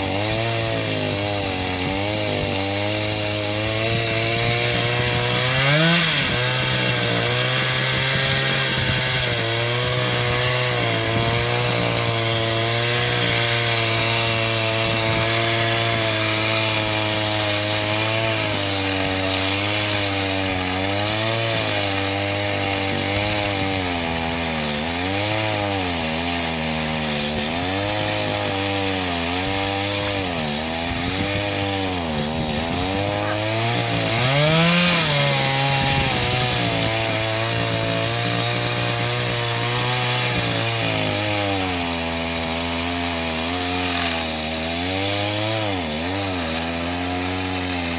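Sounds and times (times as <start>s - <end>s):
chainsaw running at high revs: 0.0s - 47.9s.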